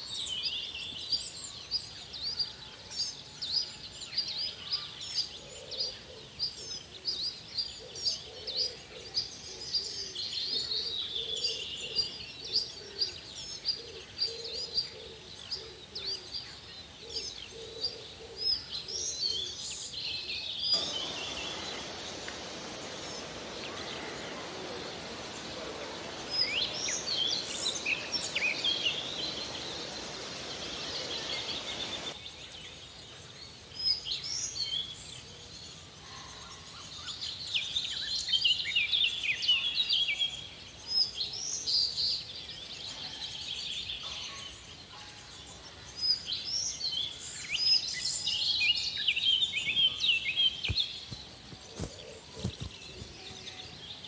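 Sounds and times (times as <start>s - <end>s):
songbirds chirping: 0.0s - 54.0s
steady background hiss: 0.0s - 54.0s.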